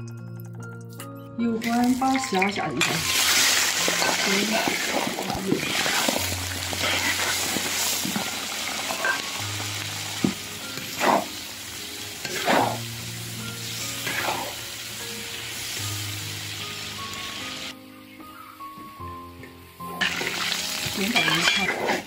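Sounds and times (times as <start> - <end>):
shrimp sizzling in oil: 1.6 - 17.8, 19.6 - 22.0.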